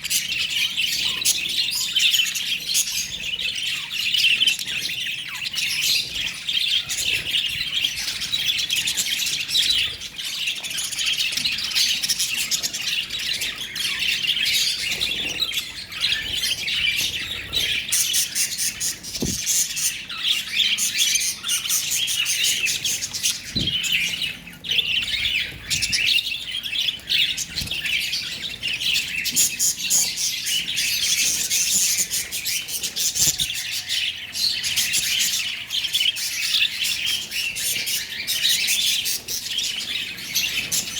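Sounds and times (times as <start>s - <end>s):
lovebirds chirping and squawking: 0.0s - 40.9s.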